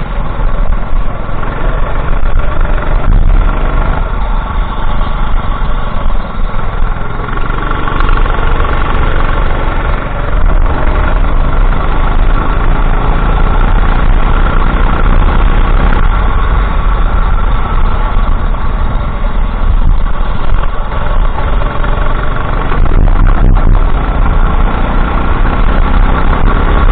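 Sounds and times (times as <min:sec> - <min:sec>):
kart engine running hard: 0:00.0 - 0:26.9.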